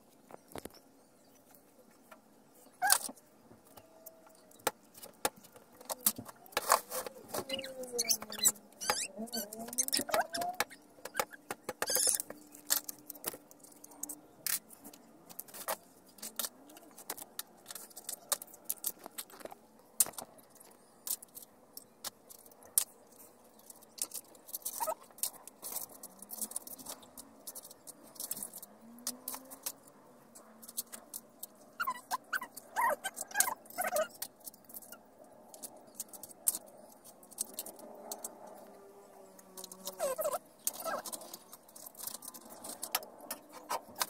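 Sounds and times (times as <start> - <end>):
hard plastic clicking and crinkling: 0.0 - 44.0.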